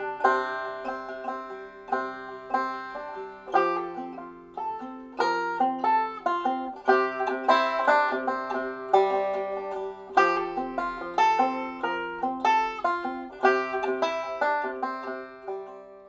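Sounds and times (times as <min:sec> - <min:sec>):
slow banjo instrumental: 0:00.0 - 0:16.0.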